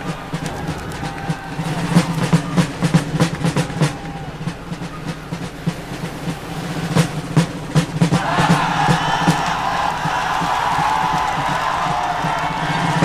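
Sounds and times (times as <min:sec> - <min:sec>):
drums beating with sharp knocks: 0:00.0 - 0:13.0.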